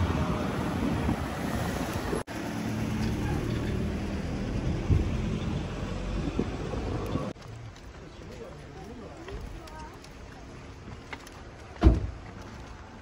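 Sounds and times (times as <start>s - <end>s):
wind buffeting microphone: 0.0s - 2.2s, 4.5s - 13.0s
street noise: 0.0s - 13.0s.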